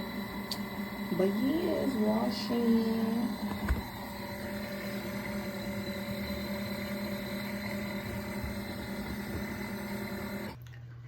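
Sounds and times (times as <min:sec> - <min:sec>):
churning water: 0:00.0 - 0:10.6
washing machine motor hum: 0:00.0 - 0:10.6.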